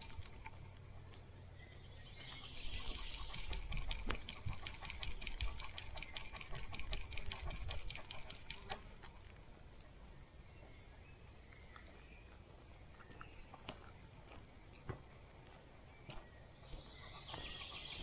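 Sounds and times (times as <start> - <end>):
small dog footsteps on dirt path: 0.0 - 1.4, 2.1 - 9.9, 10.6 - 18.0.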